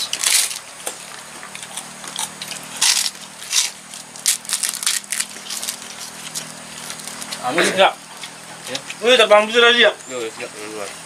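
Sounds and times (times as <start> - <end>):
crunching of fried fish: 0.0 - 9.0
faint steady hum: 0.0 - 11.0.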